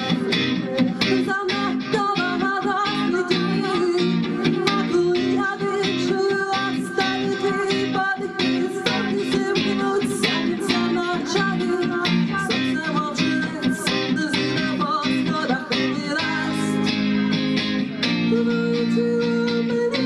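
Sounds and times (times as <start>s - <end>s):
electric guitar: 0.0s - 20.0s
woman singing: 0.0s - 20.0s.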